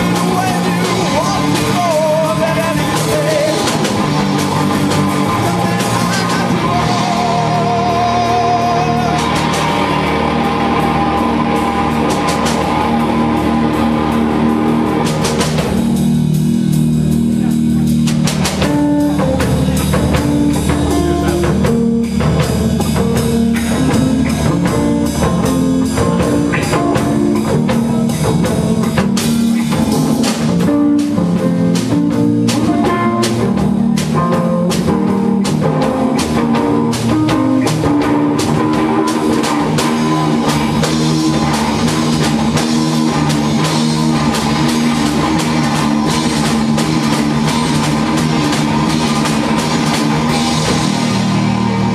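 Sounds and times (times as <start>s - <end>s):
drum kit and cymbal hits: 0.0s - 51.9s
electric guitar: 0.0s - 51.9s.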